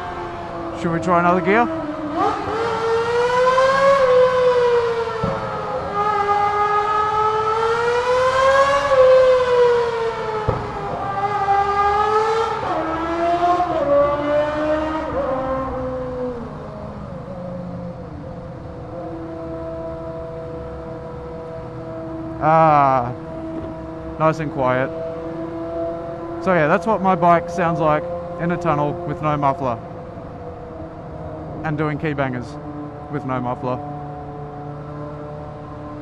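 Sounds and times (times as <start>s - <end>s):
motorcycle engine revving in tunnel: 0.0s - 31.7s, 32.6s - 33.2s, 33.8s - 36.0s.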